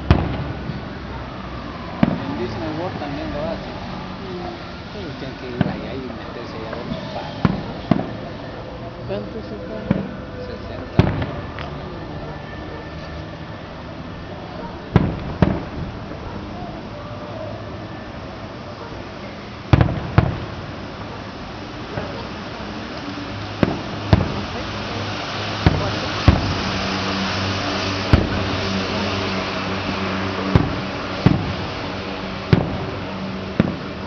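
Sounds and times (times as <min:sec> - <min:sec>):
distant fireworks bangs: 0:00.0 - 0:03.6, 0:04.4 - 0:34.0.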